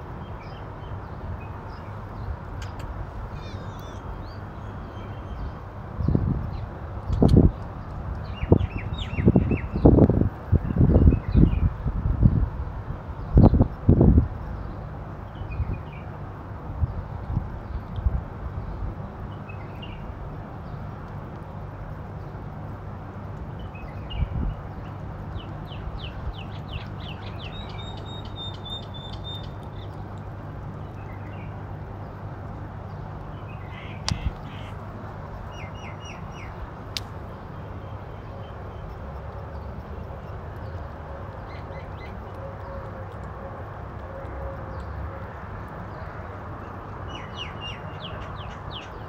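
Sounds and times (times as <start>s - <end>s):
small birds chirping: 0.1s - 12.4s, 16.8s - 49.0s.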